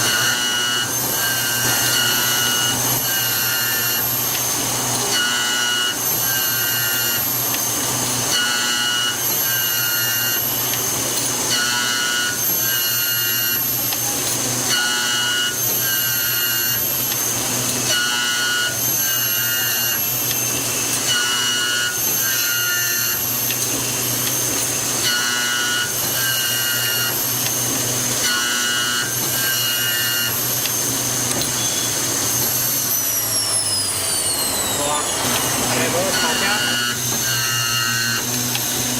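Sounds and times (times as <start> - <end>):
key milling machine spindle whining: 0.0 - 38.9.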